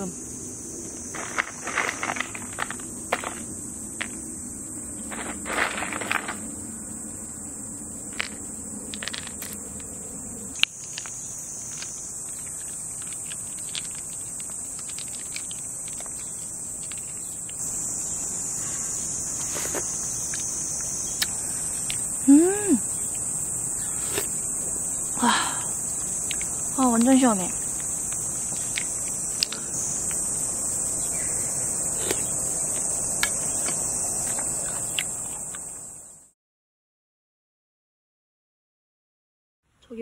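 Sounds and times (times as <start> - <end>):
crickets chirring: 0.0 - 36.3, 39.7 - 40.0.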